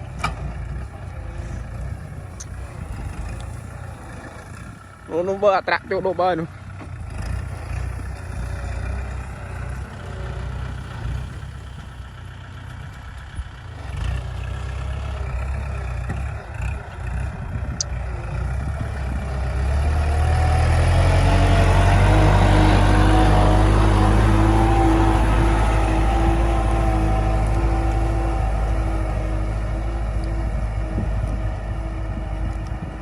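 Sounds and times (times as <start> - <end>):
diesel tractor engine revving: 0.0 - 33.0.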